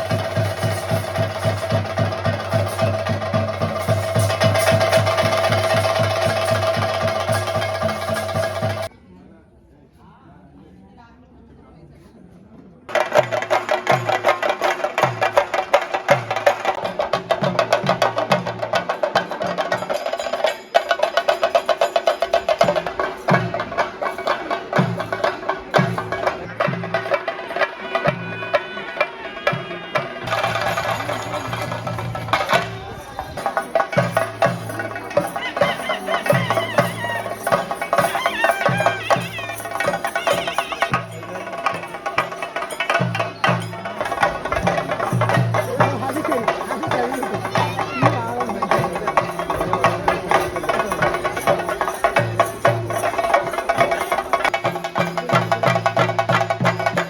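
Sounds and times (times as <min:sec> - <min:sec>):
drums beaten in a fast roll: 0:00.0 - 0:08.9, 0:12.9 - 0:57.0.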